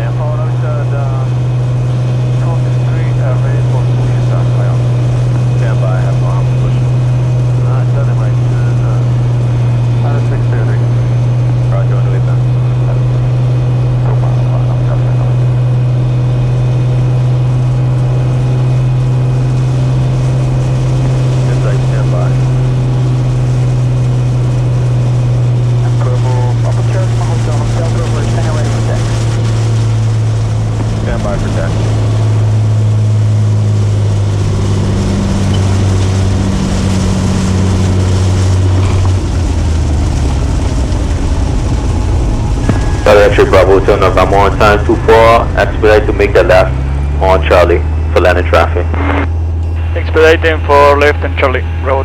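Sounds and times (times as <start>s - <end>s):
propeller plane engine drone: 0.0s - 52.0s.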